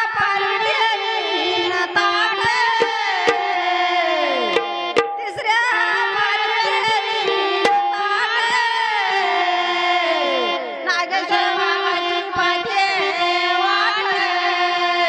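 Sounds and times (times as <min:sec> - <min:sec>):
devotional singing: 0:00.0 - 0:15.0.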